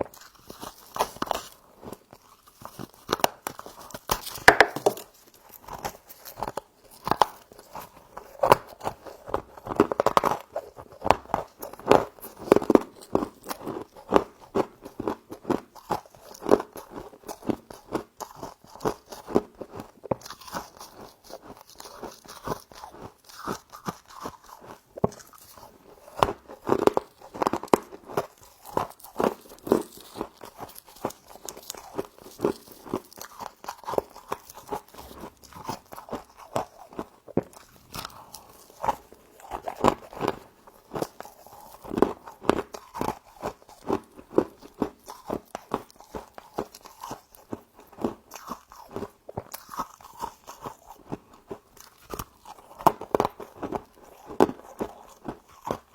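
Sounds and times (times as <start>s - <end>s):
crunching and chewing frost: 0.0s - 55.9s.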